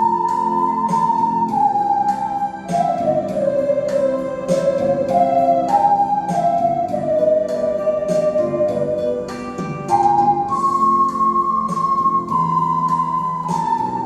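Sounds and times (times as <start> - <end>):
keyboard accompaniment with beat: 0.0 - 14.0
ocarinas playing slow melody: 0.0 - 14.0.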